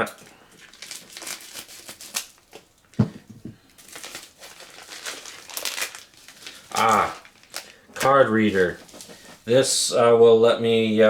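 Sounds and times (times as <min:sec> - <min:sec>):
plastic packaging crinkling and tearing: 0:00.0 - 0:03.0, 0:03.6 - 0:09.5.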